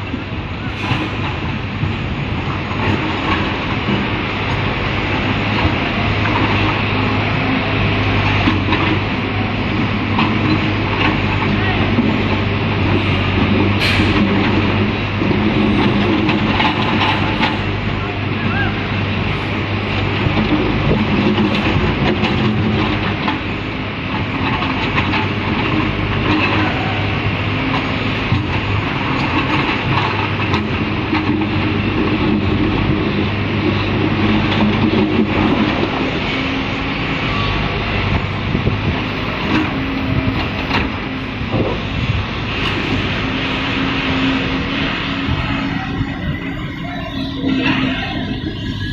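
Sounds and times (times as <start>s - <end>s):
heavy machinery running: 0.0s - 48.9s.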